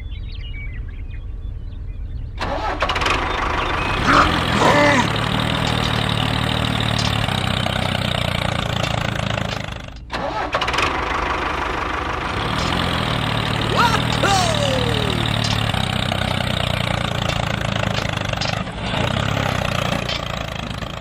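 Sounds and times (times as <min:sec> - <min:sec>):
small tractor engine running: 0:02.4 - 0:21.0.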